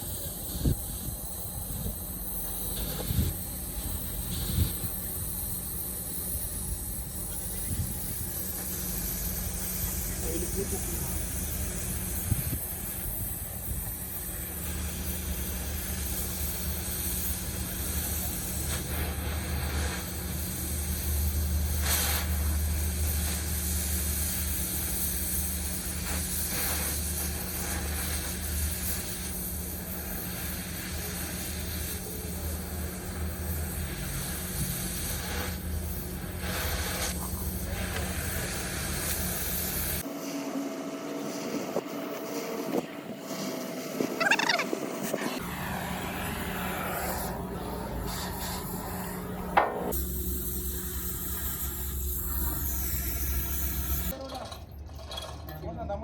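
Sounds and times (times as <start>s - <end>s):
machinery humming and hissing: 0.0s - 54.2s.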